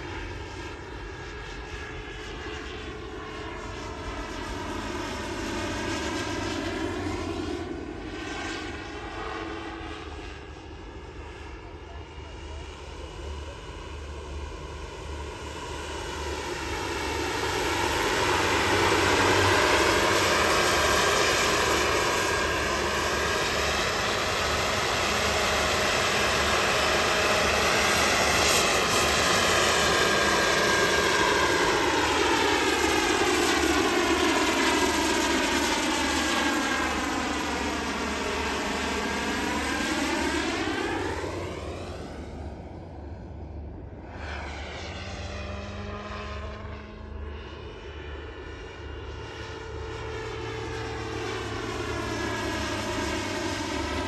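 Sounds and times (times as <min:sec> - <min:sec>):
rc helicopter turbine and rotor: 0:00.0 - 0:54.0.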